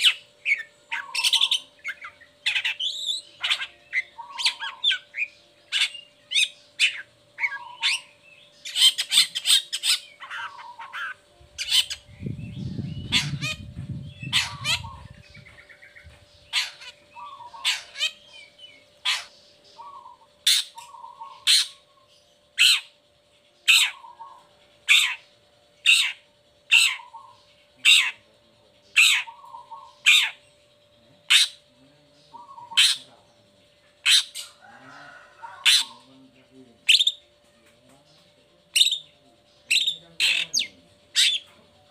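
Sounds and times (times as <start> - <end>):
bird harsh calls: 0.0 - 23.0, 23.6 - 33.4, 34.0 - 36.2, 36.8 - 37.3, 38.7 - 41.9
faint steady hum: 0.0 - 41.9.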